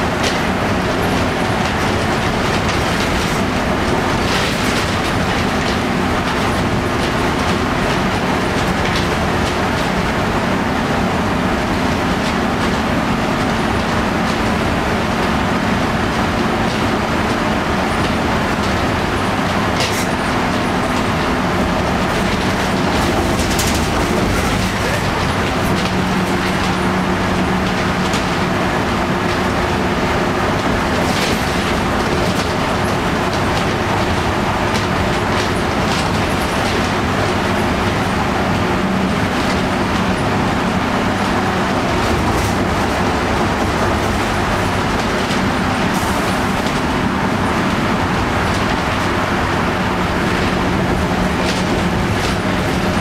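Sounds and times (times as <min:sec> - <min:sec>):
bus body knocks and rattles: 0:00.0 - 0:53.0
bus diesel engine under load: 0:00.0 - 0:53.0
road and tyre noise: 0:00.0 - 0:53.0.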